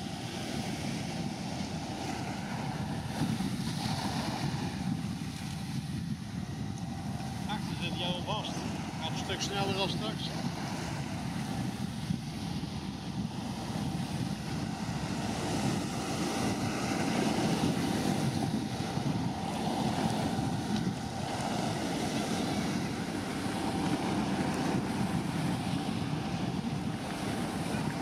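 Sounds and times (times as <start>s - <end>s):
faint ship engines humming: 0.0s - 28.0s
wind buffeting microphone: 0.0s - 28.0s.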